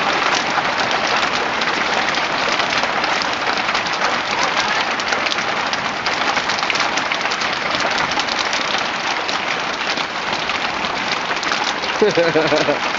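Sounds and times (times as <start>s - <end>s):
hailstones clattering: 0.0s - 12.9s
heavy rain: 0.0s - 12.9s.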